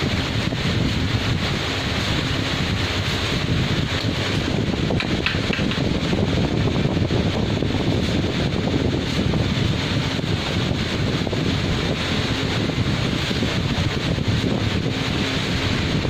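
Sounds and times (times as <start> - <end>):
road traffic: 0.0 - 16.0
wind noise on microphone: 0.0 - 16.0.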